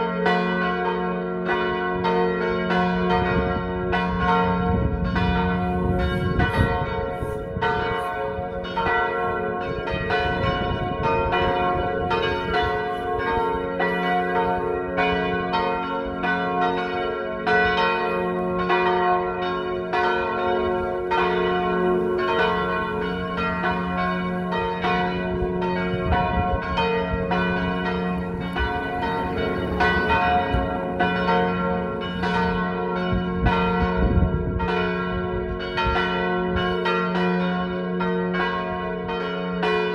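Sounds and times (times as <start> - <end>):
church bells ringing in a peal: 0.0 - 39.9.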